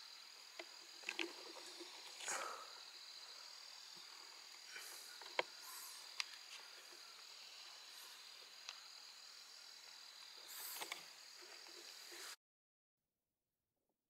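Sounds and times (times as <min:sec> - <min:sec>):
insects droning: 0:00.0 - 0:12.4.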